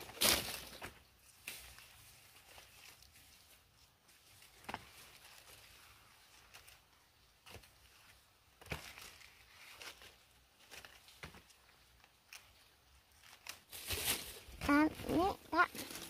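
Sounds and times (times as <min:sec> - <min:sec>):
rustling of leaf litter: 0:00.0 - 0:16.0.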